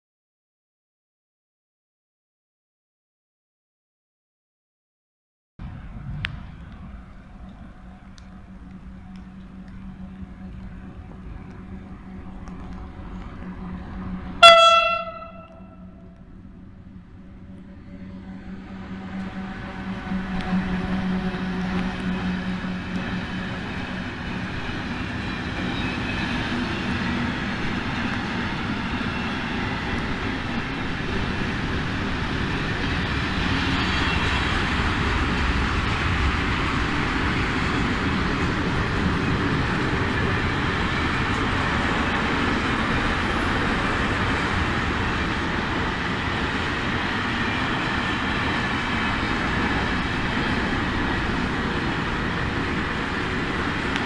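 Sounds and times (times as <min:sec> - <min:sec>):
freight train rolling past: 0:05.6 - 0:54.0.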